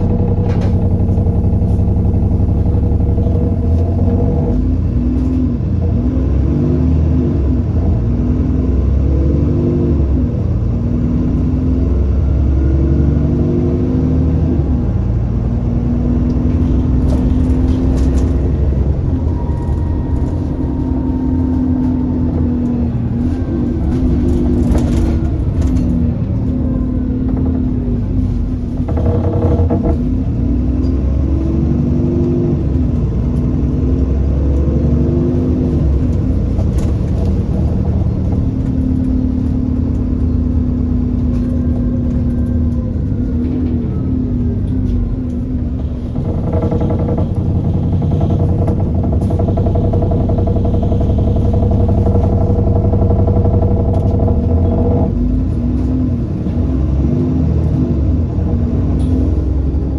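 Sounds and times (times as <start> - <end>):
bus diesel engine changing gears: 0.0 - 59.9.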